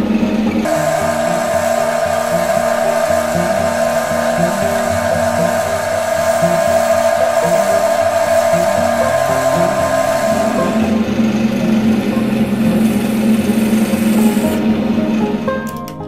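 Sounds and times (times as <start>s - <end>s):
wood lathe whine: 0.0s - 15.6s
background music: 0.0s - 16.0s.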